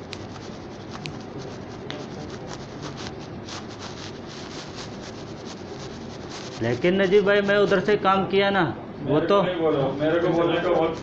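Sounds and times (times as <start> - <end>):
scratchy rubbing and scraping: 0.0 - 8.1, 9.6 - 11.0.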